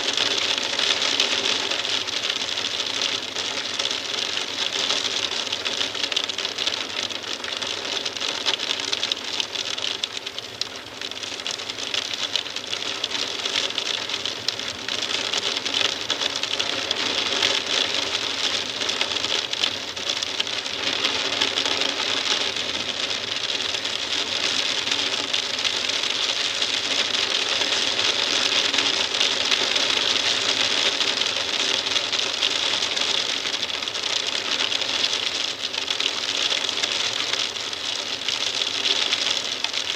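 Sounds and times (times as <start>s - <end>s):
hail tapping on a window: 0.0s - 39.9s.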